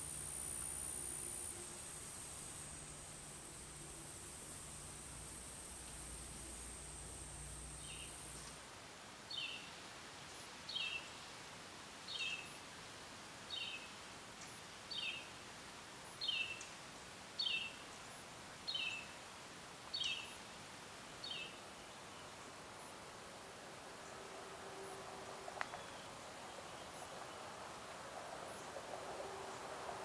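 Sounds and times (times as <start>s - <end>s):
low hum with high hiss: 0.0s - 30.0s.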